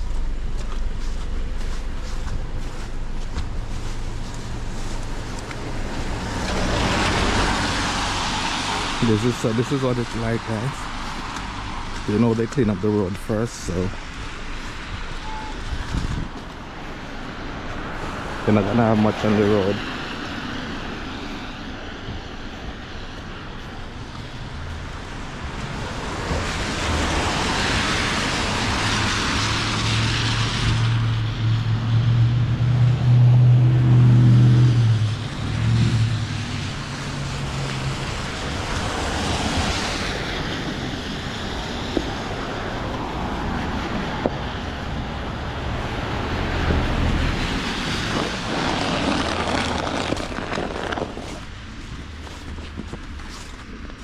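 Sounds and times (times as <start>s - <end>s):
low engine drone: 0.0s - 54.0s
tyres hissing on wet road: 1.2s - 15.2s, 16.7s - 52.7s.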